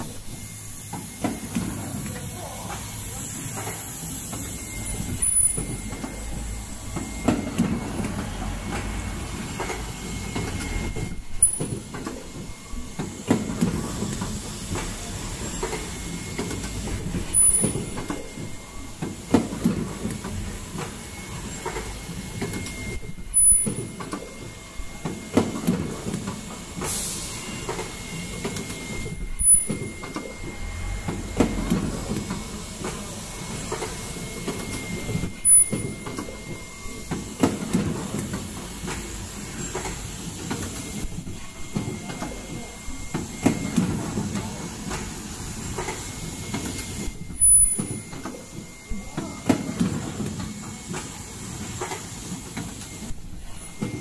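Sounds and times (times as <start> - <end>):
machine clatter and hiss: 0.0 - 54.0.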